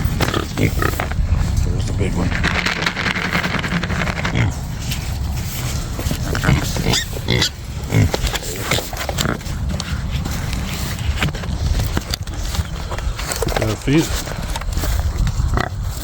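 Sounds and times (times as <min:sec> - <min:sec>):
pigs grunting: 0:00.0 - 0:16.0.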